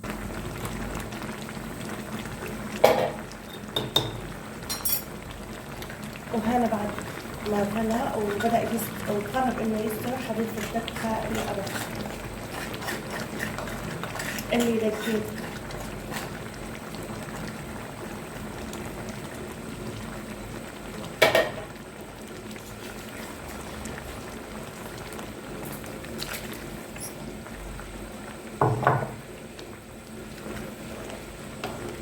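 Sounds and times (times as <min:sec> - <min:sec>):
pot bubbling at the boil: 0:00.0 - 0:32.0.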